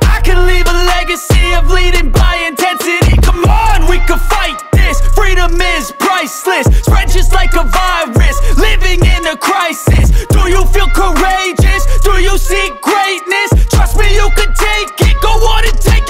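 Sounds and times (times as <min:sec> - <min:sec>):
hip hop beat with heavy bass: 0:00.0 - 0:16.0.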